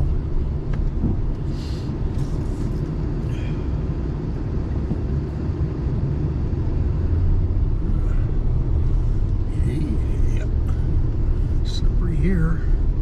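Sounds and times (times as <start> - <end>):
road and engine rumble in a cab: 0.0 - 13.0.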